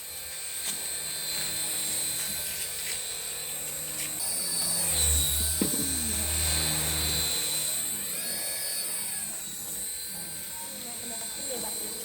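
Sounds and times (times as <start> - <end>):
toy helicopter motors whining: 0.0 - 12.0.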